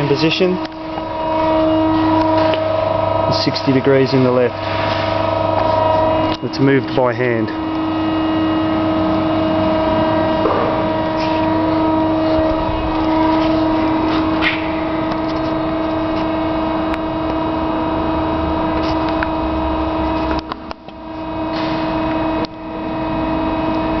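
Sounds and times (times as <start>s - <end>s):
bandsaw humming: 0.0s - 24.0s.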